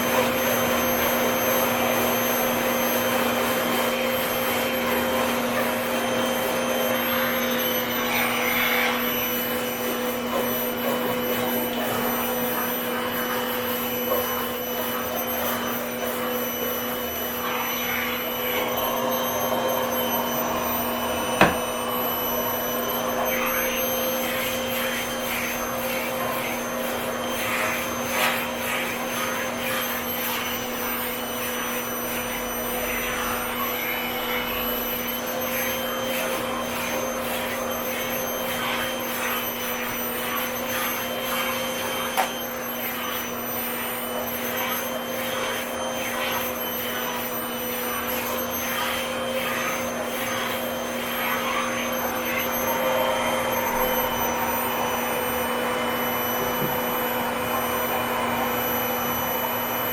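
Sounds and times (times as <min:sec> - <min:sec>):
vacuum cleaner humming: 0:00.0 - 0:59.9.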